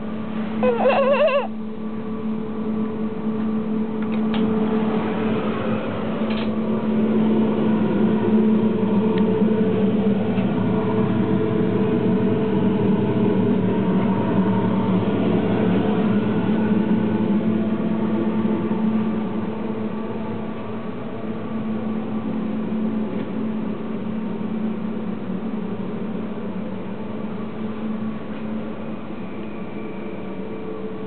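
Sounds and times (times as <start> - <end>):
train running hum: 0.0 - 31.0.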